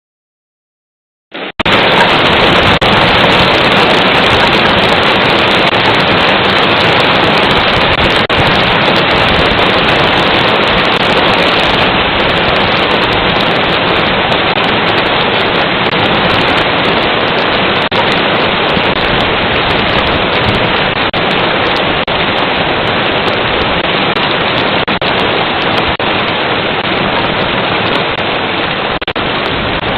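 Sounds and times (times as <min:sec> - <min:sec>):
hail rattling: 0:01.6 - 0:29.9.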